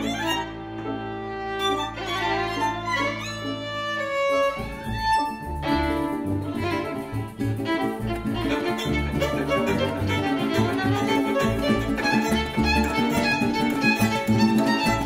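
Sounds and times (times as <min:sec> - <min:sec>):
cuatro strumming: 0:00.0 - 0:15.0
plucked double bass: 0:00.0 - 0:15.0
violins playing quick melody: 0:00.0 - 0:15.0
maracas: 0:02.0 - 0:15.0.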